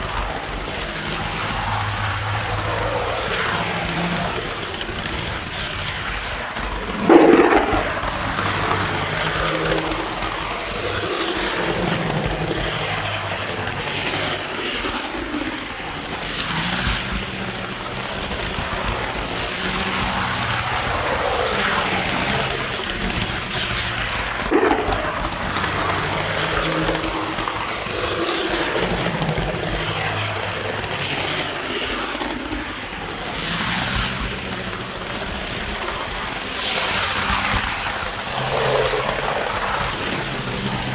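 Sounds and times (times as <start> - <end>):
model train wheels rumbling: 0.0 - 40.9
locomotive motor: 0.1 - 40.9.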